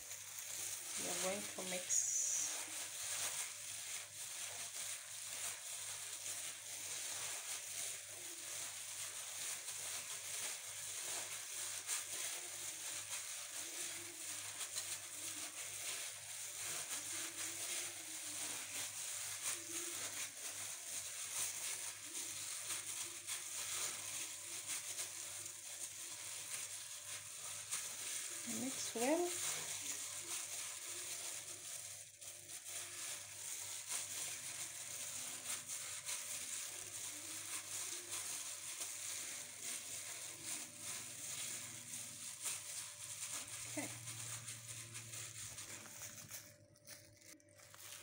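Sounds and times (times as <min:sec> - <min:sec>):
plastic gloves crinkling: 0:00.0 - 0:48.0.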